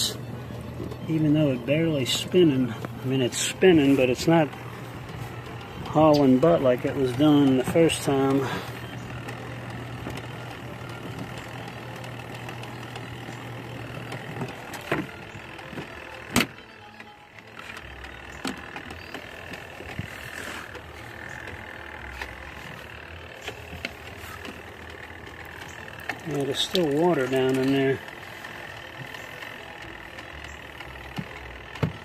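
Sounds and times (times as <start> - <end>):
washing machine motor humming: 0.0 - 32.0
sharp clicks and knocks: 3.7 - 32.0.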